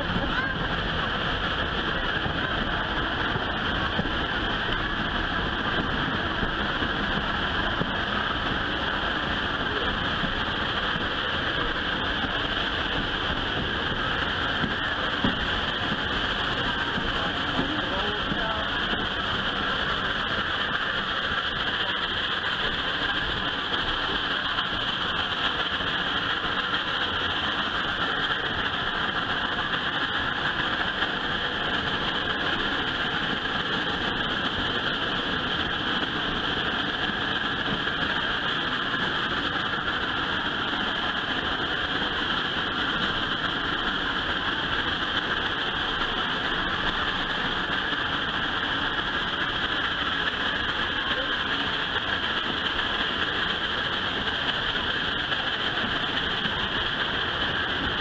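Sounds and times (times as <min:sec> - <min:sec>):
train running noise: 0:00.0 - 0:58.0.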